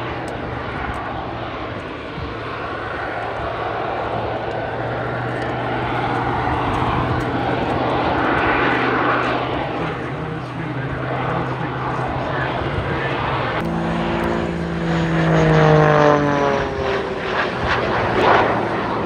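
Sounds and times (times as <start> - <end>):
propeller aircraft flying overhead: 0.0 - 19.0.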